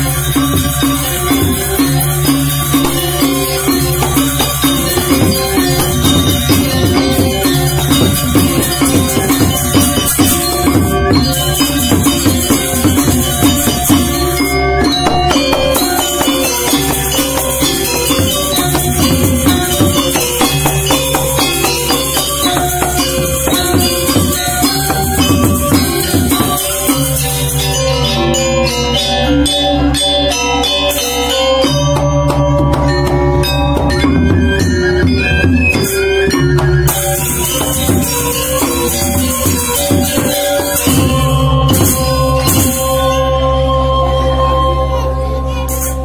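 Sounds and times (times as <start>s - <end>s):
hand drums: 0.0s - 44.1s
high clashing cymbals: 0.0s - 46.0s
metallophones and gongs ringing: 0.0s - 46.0s.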